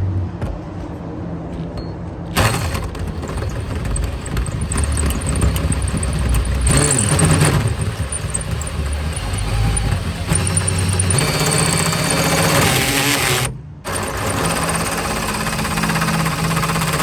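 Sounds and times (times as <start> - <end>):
electric drill cutting sheet metal: 2.4 - 17.0.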